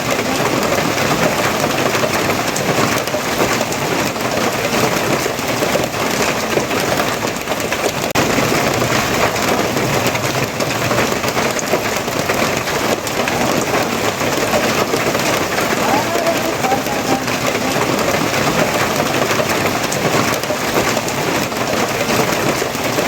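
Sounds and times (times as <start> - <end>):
heavy rain pattering: 0.0 - 23.0.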